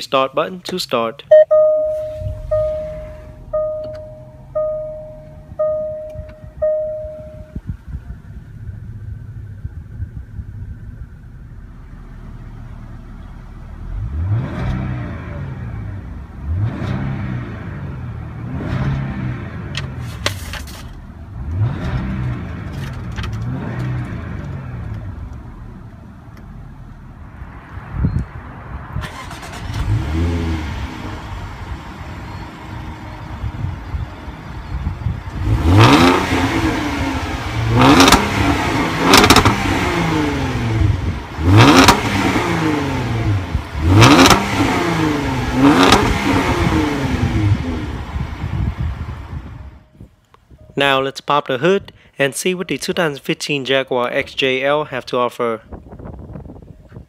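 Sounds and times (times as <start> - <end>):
car engine idling and revving: 1.3 - 50.5.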